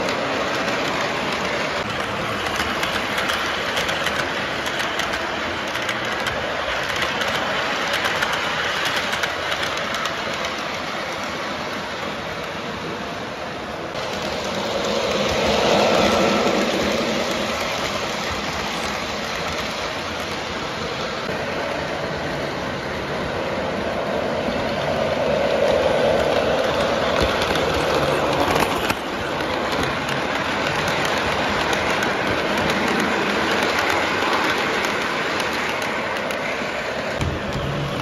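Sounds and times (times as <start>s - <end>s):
model trains rumbling on track: 0.0s - 38.0s.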